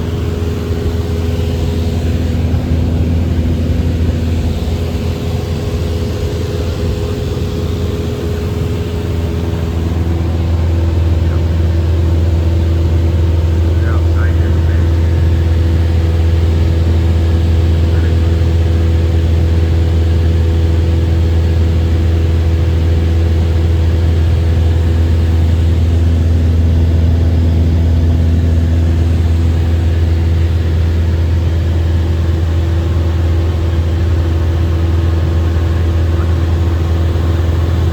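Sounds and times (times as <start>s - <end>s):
airplane engine droning in cabin: 0.0s - 37.9s.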